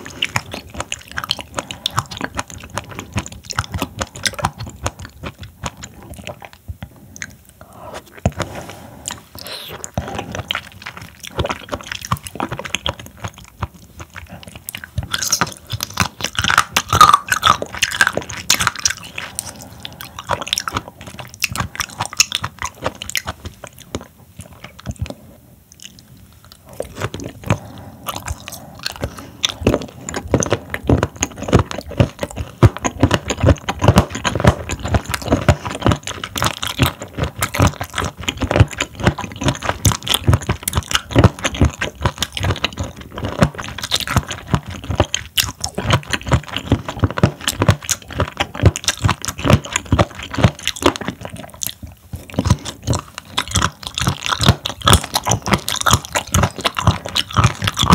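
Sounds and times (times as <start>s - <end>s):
chewing clicks: 0.0s - 57.9s.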